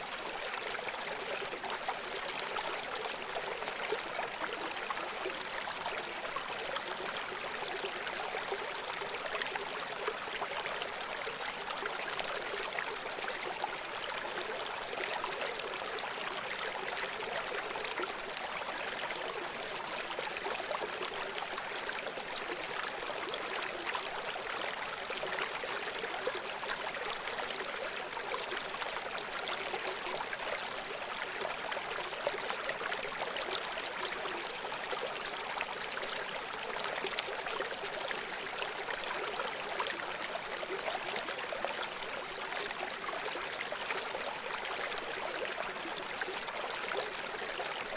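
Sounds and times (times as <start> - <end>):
stream flowing over stones: 0.0 - 47.9.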